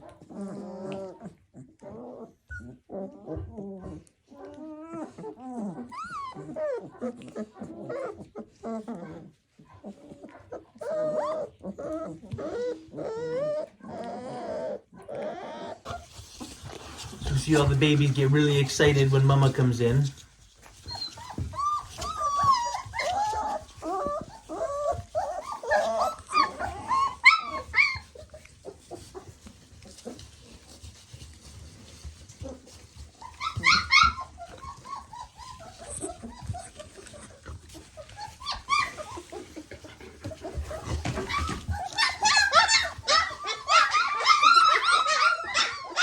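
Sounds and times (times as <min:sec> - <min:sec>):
puppies whimpering and squealing: 0:00.0 - 0:46.0.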